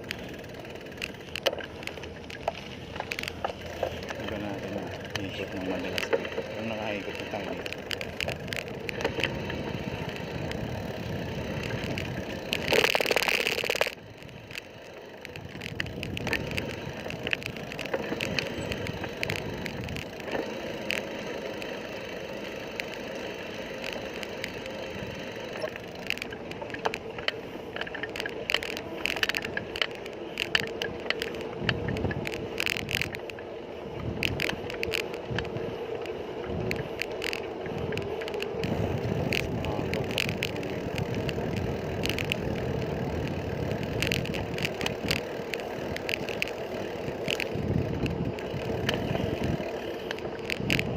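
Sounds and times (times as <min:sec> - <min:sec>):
bicycle tyre road noise: 0:00.0 - 0:50.9
small clicks and rattles: 0:00.0 - 0:50.9.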